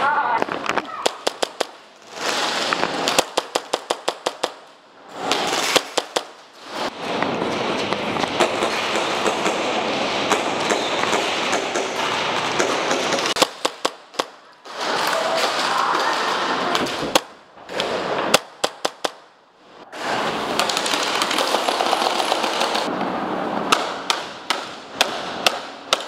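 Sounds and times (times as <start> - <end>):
airsoft gunfire: 1.0 - 6.9, 8.3 - 19.3, 20.6 - 22.9, 23.7 - 26.0.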